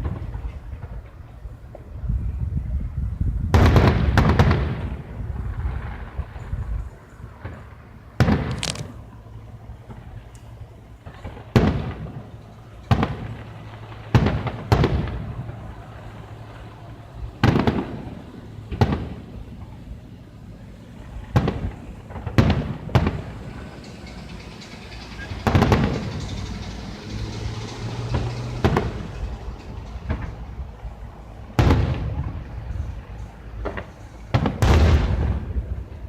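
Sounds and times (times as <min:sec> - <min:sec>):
fireworks booming: 0:00.0 - 0:36.0
fireworks crackle: 0:00.0 - 0:36.0.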